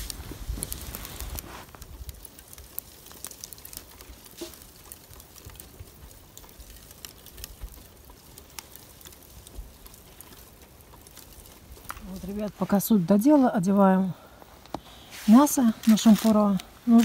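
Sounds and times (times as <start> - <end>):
charcoal crackling and popping: 0.0 - 17.0.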